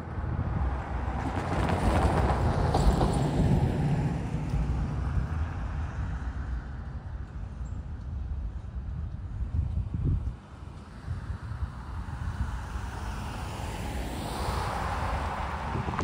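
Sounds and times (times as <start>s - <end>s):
car passing with tyre noise: 0.0s - 9.5s, 10.3s - 16.0s.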